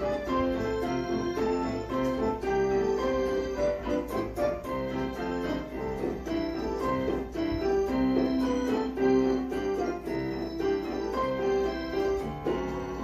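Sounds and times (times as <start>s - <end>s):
keyboard music with organ sound: 0.0s - 13.0s.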